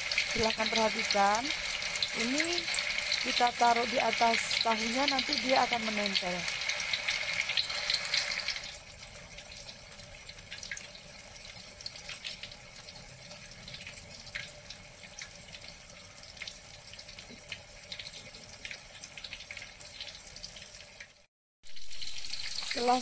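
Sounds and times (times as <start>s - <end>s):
deep-frying sizzle with pops: 0.0s - 23.0s.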